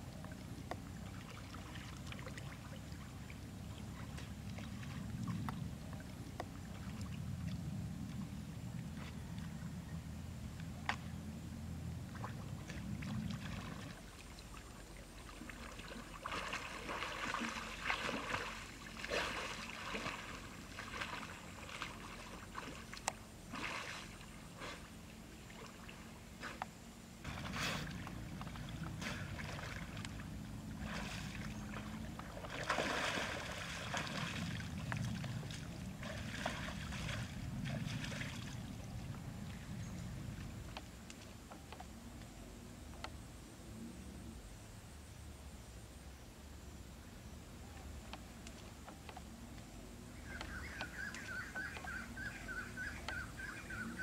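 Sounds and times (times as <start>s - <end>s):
water splashing and sloshing: 0.0s - 9.8s, 11.8s - 42.0s, 47.7s - 54.0s.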